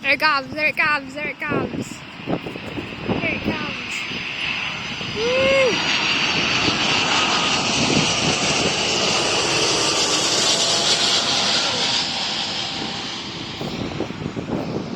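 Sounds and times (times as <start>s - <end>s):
jet airliner passing overhead: 0.0s - 14.9s.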